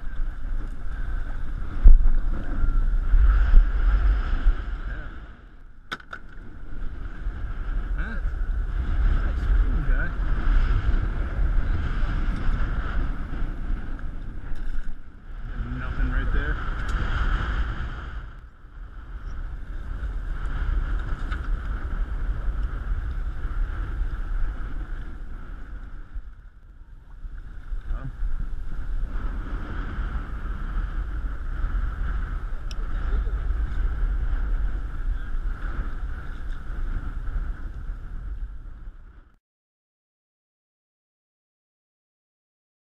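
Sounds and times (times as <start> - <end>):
wind rumble on microphone: 0.0 - 39.4.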